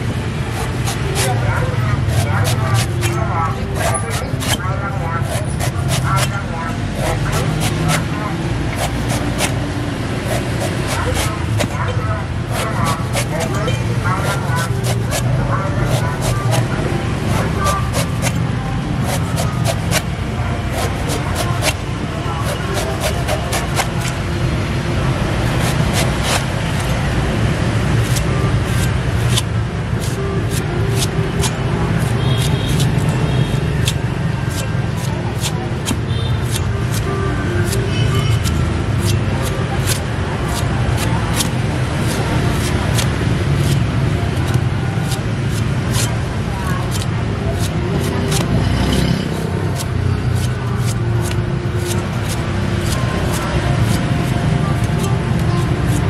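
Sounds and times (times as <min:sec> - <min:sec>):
street traffic: 0:00.0 - 0:56.0
cleaver chopping coconut husk: 0:00.2 - 0:24.2, 0:25.4 - 0:27.1, 0:27.9 - 0:56.0.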